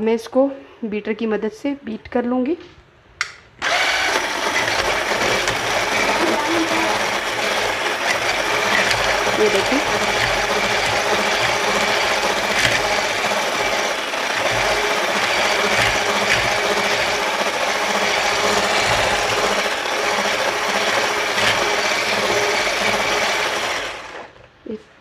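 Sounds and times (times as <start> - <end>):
electric hand mixer running: 3.6 - 24.4.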